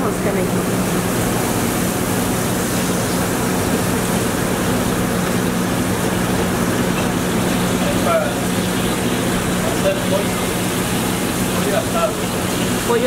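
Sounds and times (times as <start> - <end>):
kitchen exhaust hood rushing: 0.0 - 13.0.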